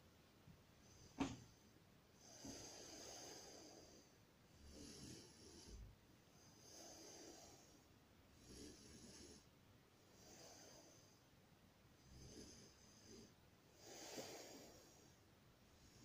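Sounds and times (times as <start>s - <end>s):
person breathing: 0.8s - 11.4s, 12.0s - 16.0s.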